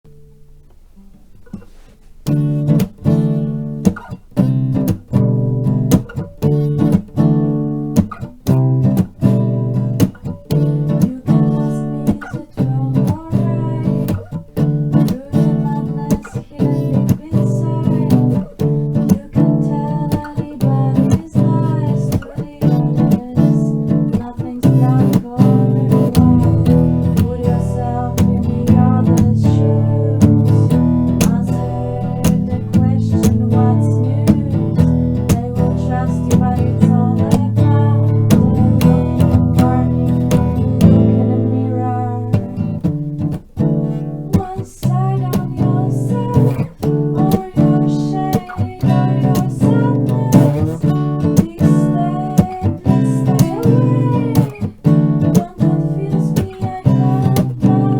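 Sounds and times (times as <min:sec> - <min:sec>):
acoustic guitar strumming chords: 0:00.1 - 0:57.9.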